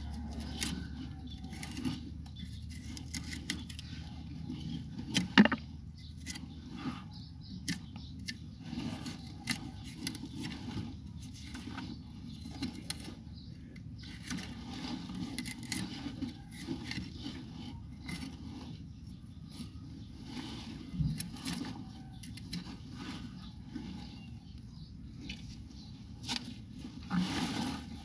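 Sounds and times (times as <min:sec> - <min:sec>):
plant rustling and scraping: 0:00.0 - 0:07.2, 0:08.1 - 0:28.0.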